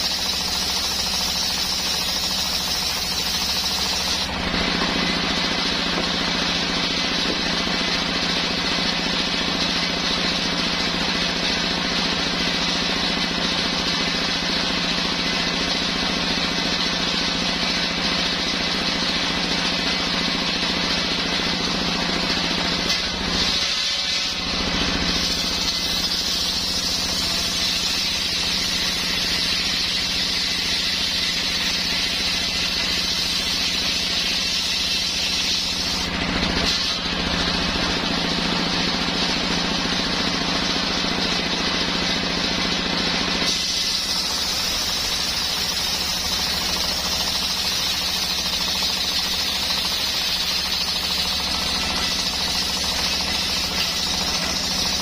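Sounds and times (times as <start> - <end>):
engine-driven circular saw cutting wood: 0.0 - 55.0.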